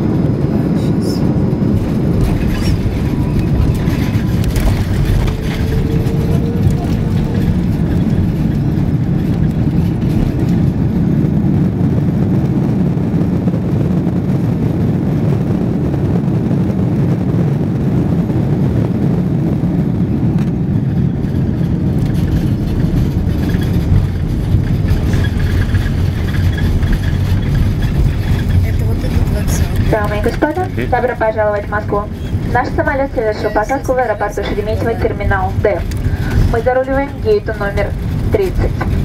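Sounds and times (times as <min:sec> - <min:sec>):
aircraft cabin rumble: 0:00.0 - 0:39.0.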